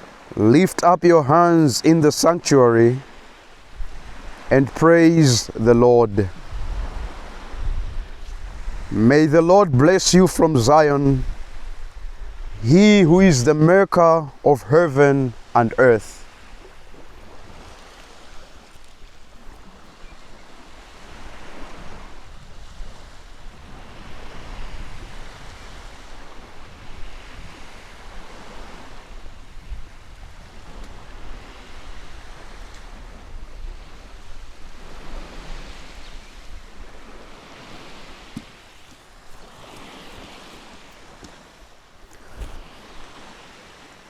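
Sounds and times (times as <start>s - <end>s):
ocean waves washing in: 0.0s - 44.0s.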